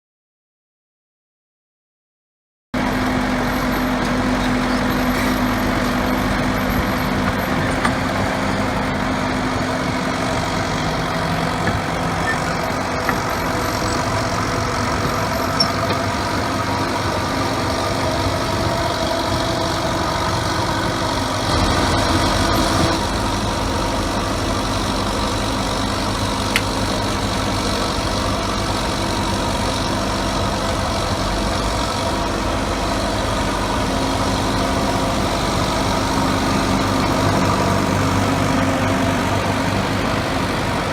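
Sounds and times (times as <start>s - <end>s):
diesel engine running: 2.8s - 40.9s.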